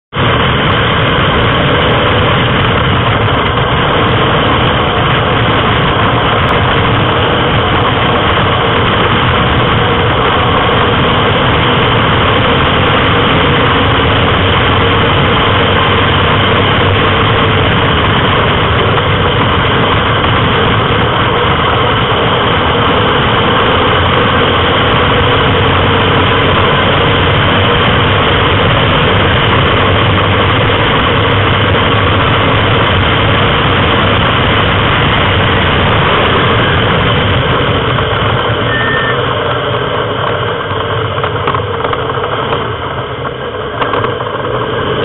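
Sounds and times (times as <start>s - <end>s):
road and wind noise: 0.0s - 45.0s
sports car engine running hard: 0.0s - 45.0s.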